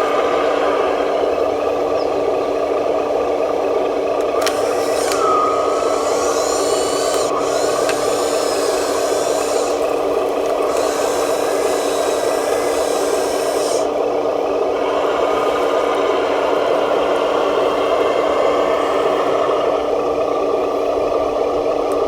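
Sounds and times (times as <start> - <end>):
small electric motors whining: 4.0 - 22.0.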